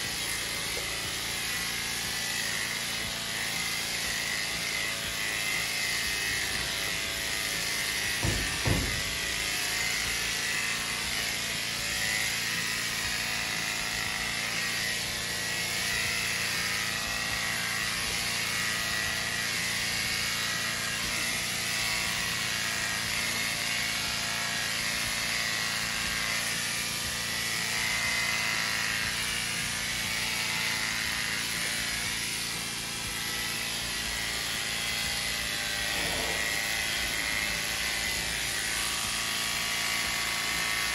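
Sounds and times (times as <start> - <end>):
electric clippers buzzing: 0.0 - 40.9.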